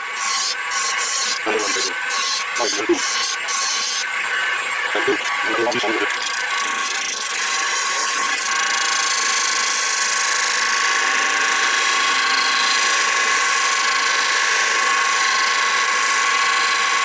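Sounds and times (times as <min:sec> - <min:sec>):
wood lathe whining: 0:00.0 - 0:17.0.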